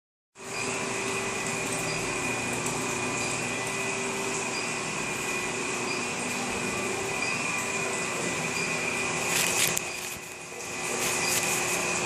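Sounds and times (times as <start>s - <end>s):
machine hissing and whining: 0.4s - 12.0s.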